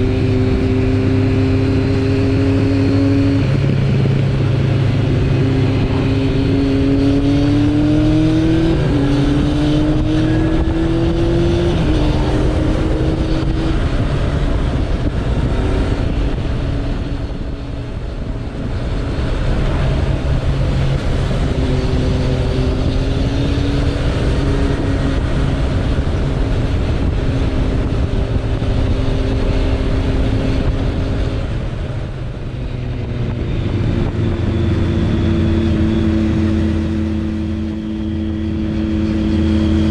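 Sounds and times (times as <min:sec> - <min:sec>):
motorcycle engine shifting gears: 0:00.0 - 0:39.9
wind and road noise: 0:00.0 - 0:39.9.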